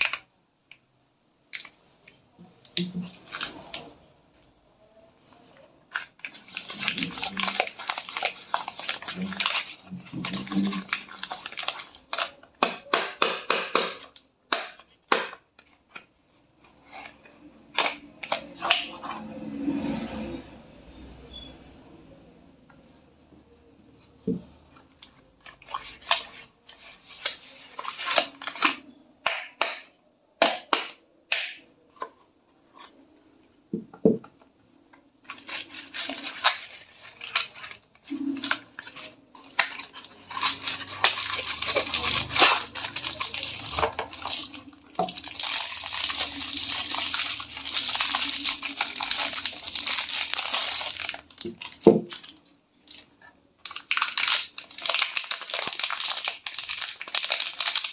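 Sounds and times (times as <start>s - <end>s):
scratching and crinkling of wrappers: 0.0s - 0.3s, 1.5s - 4.6s, 5.2s - 19.2s, 24.4s - 31.0s, 35.2s - 57.9s.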